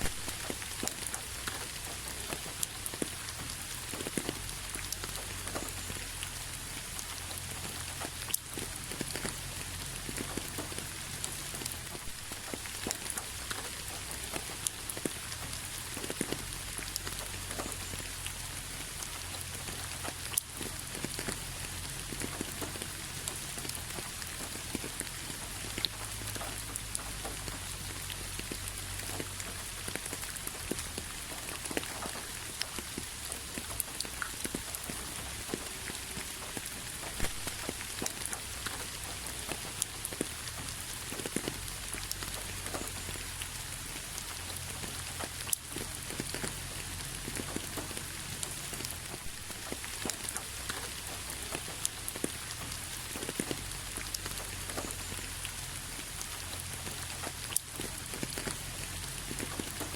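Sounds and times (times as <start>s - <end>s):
rain on hard surface: 0.0s - 59.9s.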